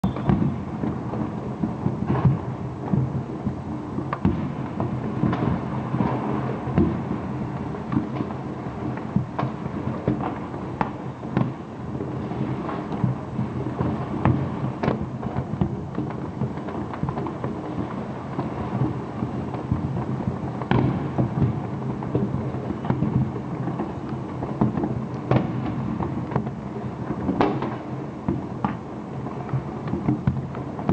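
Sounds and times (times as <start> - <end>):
sharp firework bangs: 0.0 - 26.6, 27.2 - 28.9
fireworks rumble and crackle: 0.0 - 30.9.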